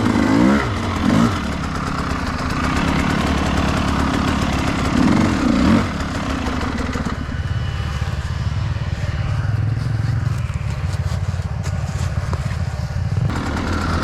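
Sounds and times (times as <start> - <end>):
dirt bike engine: 0.0 - 14.0.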